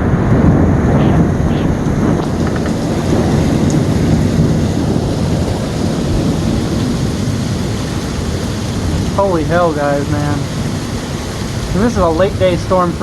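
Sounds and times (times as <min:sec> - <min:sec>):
low thunder rumble: 0:00.0 - 0:13.0
rain pouring: 0:00.0 - 0:13.0
strong wind: 0:00.0 - 0:13.0.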